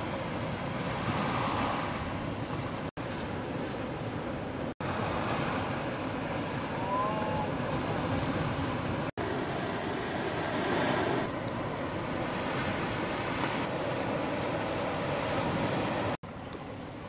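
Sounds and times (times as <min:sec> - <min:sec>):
wind on microphone: 0:00.0 - 0:16.2
ocean surf: 0:00.0 - 0:17.0.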